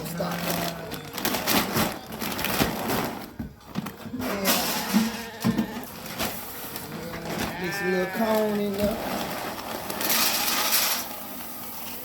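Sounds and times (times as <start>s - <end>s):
rustling and crunching: 0.0s - 12.0s.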